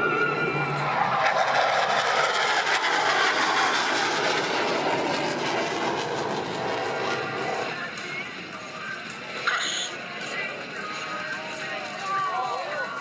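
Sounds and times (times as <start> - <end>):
jet engines rushing past: 0.0 - 13.0.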